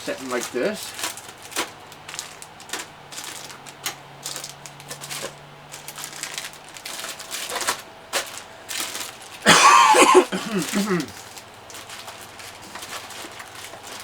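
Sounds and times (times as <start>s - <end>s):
plastic parts clicking and rustling: 0.0s - 9.5s, 10.5s - 14.0s.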